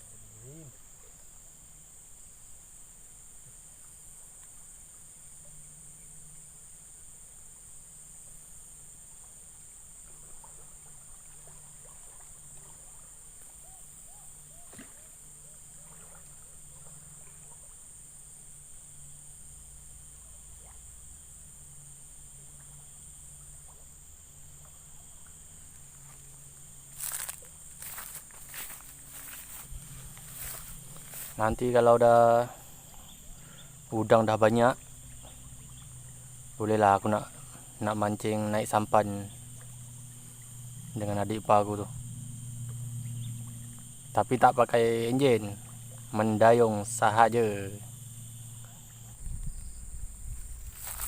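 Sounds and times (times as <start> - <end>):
faint chirps and ticks: 0.0 - 51.0
insects droning: 0.0 - 51.0.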